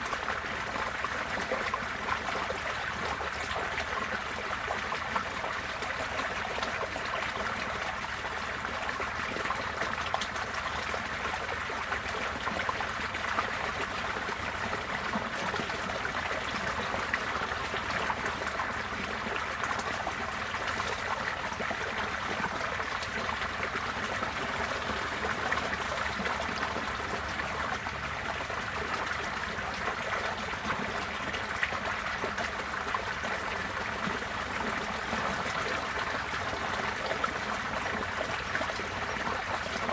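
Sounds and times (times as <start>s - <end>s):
floodwater flowing: 0.0s - 39.9s.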